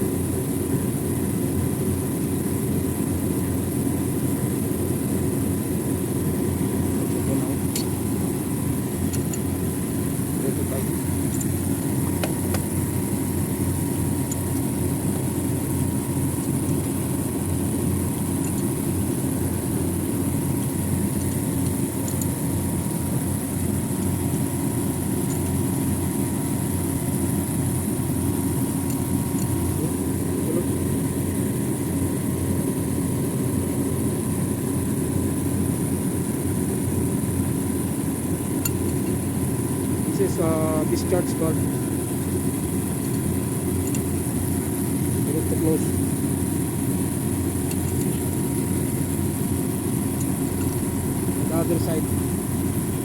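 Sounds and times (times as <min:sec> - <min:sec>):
machinery droning: 0:00.0 - 0:53.0
high whine: 0:05.2 - 0:53.0.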